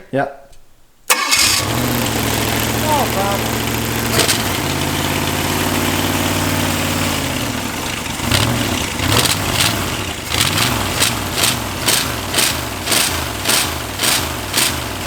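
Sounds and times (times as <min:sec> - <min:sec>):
car engine lumpy uneven idle: 0:01.6 - 0:15.0.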